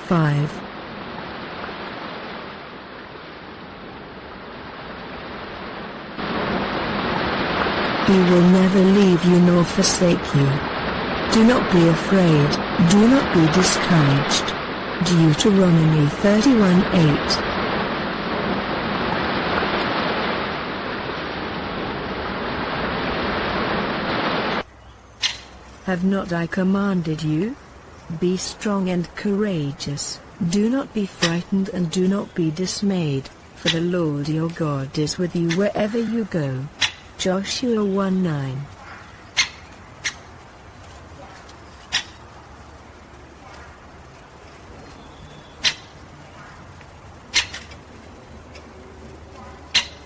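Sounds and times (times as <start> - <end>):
rushing water: 0.0 - 50.0.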